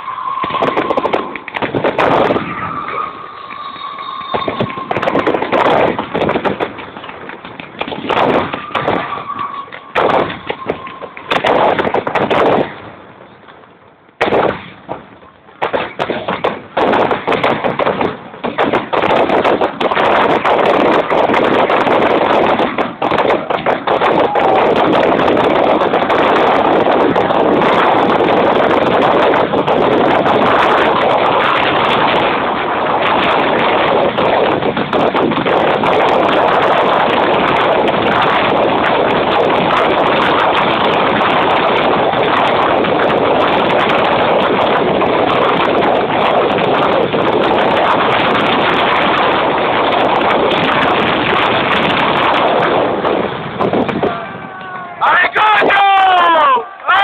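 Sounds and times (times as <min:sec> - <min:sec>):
fireworks exploding and crackling: 0:00.0 - 0:57.0.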